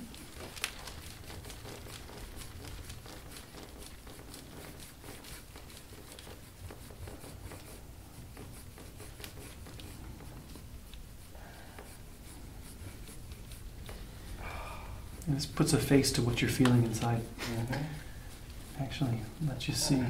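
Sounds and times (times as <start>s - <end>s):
hands rubbing skin: 0.0s - 14.4s, 15.0s - 20.0s
low room hum: 0.0s - 20.0s.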